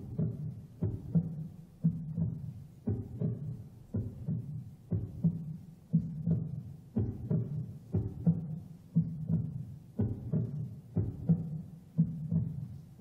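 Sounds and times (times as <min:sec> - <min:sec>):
heartbeat-like double thump: 0:00.0 - 0:12.8.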